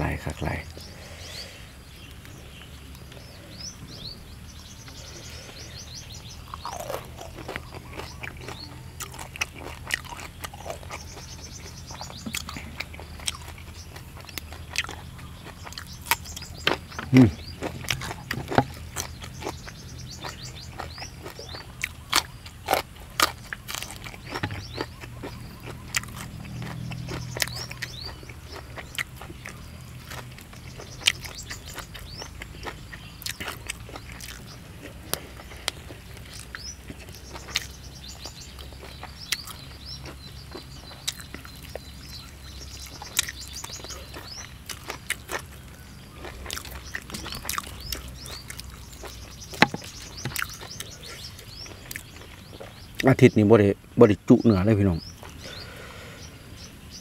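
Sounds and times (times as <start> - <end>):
birds chirping: 0.0 - 57.0
crunching and chewing crispy food: 0.0 - 57.0.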